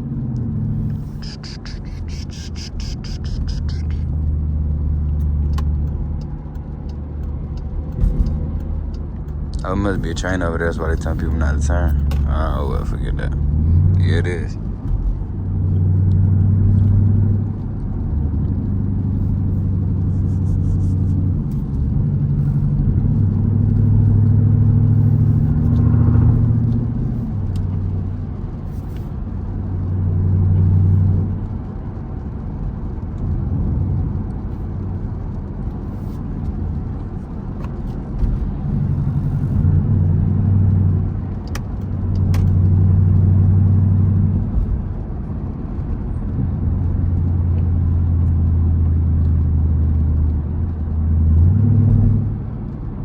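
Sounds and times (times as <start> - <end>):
car exhaust drone: 0.0 - 53.0.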